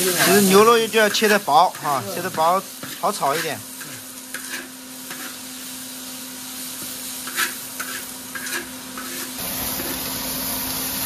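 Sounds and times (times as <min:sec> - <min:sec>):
spatula scraping wok: 0:00.0 - 0:10.2
meat sizzling in a wok: 0:00.0 - 0:11.0.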